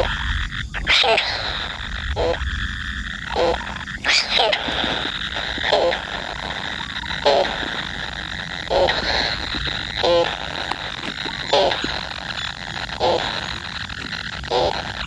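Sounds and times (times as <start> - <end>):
steady high hiss: 0.0 - 15.0
animal short call: 0.8 - 15.0.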